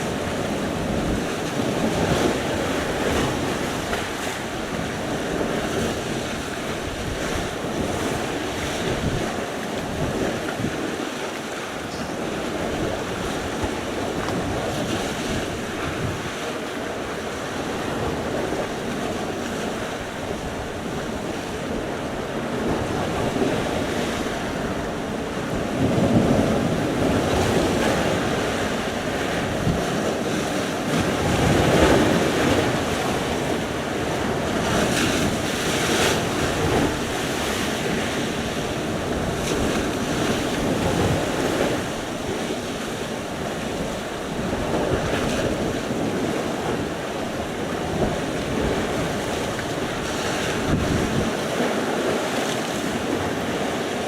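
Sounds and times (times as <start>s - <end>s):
waves breaking: 0.0s - 54.0s
wind buffeting microphone: 0.0s - 54.0s.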